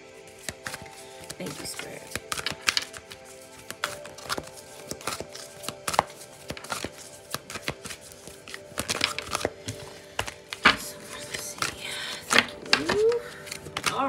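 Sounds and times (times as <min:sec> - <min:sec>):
soft background music: 0:00.0 - 0:14.0
cards being shuffled: 0:00.2 - 0:14.0.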